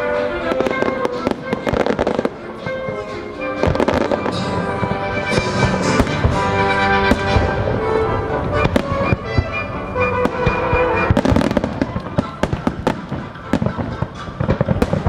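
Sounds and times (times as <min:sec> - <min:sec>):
orchestral music: 0:00.0 - 0:15.0
fireworks bangs and pops: 0:00.1 - 0:15.0.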